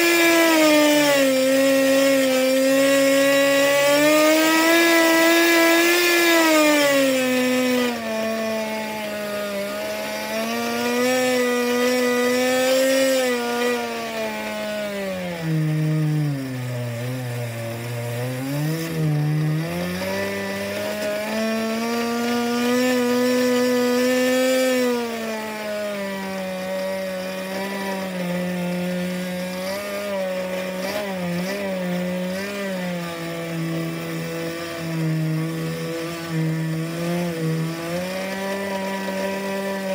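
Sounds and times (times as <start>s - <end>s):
nitro model engine revving: 0.0s - 39.9s.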